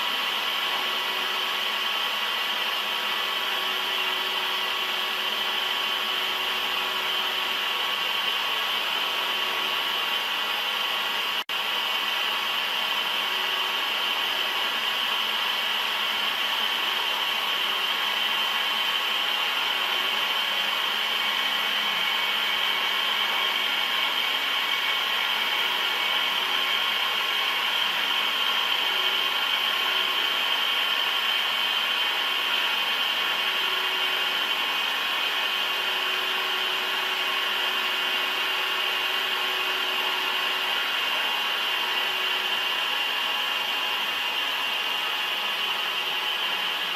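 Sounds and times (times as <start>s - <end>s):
metal-cutting machine whining: 0.0s - 46.9s.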